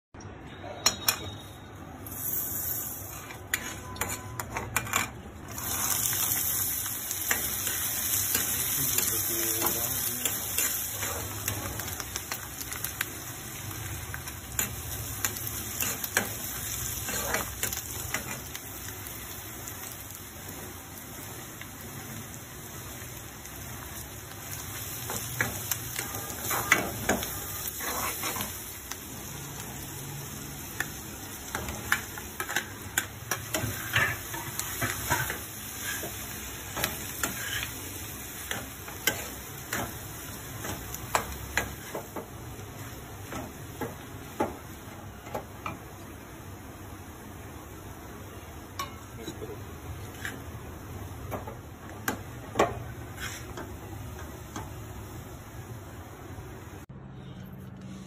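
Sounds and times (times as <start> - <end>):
onions frying in oil: 2.0 - 56.9.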